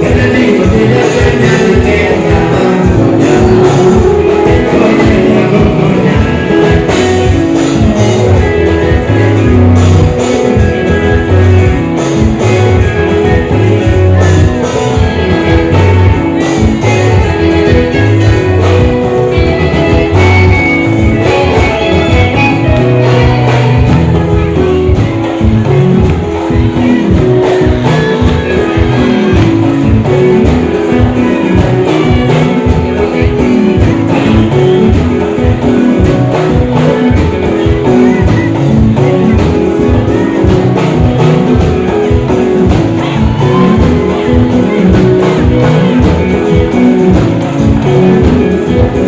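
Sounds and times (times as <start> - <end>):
live band music: 0.0 - 49.0
person singing: 0.0 - 49.0.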